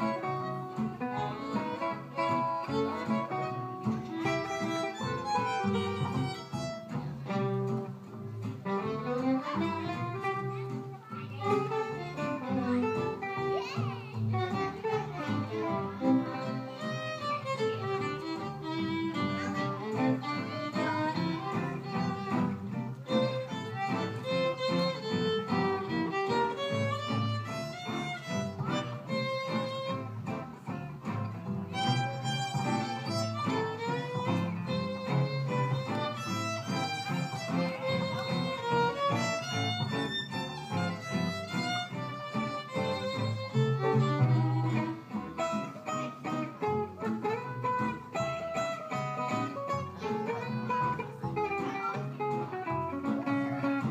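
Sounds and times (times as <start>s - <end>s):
plucked upright bass: 0.0s - 53.9s
strummed acoustic guitars: 0.0s - 53.9s
violin melody: 0.0s - 53.9s.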